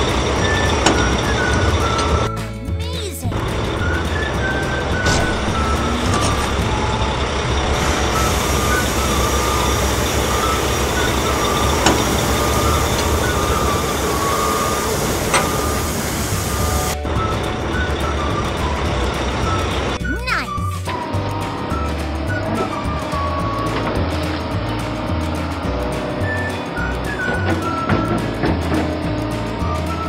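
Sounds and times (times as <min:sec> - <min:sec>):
truck engine: 0:00.0 - 0:30.0.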